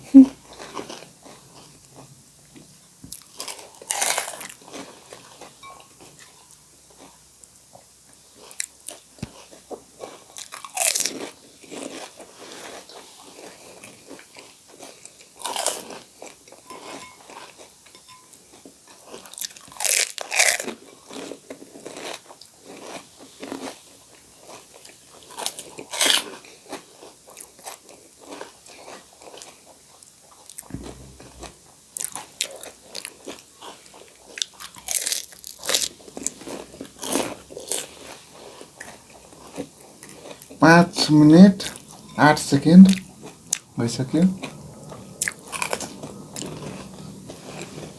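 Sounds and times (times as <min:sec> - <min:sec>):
chewing: 0:00.2 - 0:07.8, 0:08.4 - 0:17.8, 0:18.5 - 0:40.6, 0:44.4 - 0:47.9.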